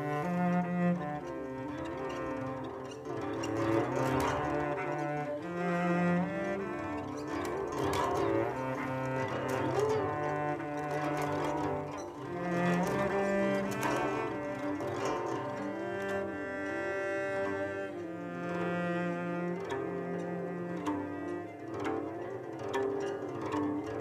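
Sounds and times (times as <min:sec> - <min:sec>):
cello bowing low notes: 0:00.0 - 0:24.0.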